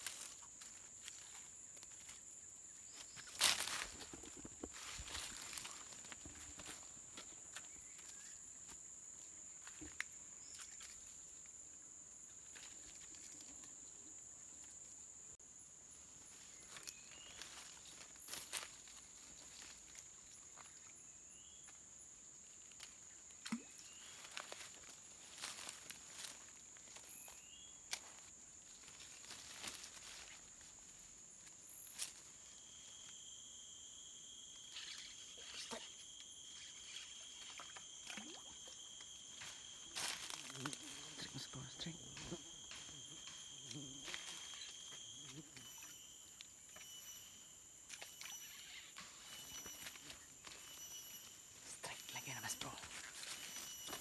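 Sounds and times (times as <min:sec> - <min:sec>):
footsteps on twigs and leaves: 0:00.0 - 0:11.5, 0:16.2 - 0:21.0, 0:22.4 - 0:54.0
high-pitched insect drone: 0:00.0 - 0:54.0.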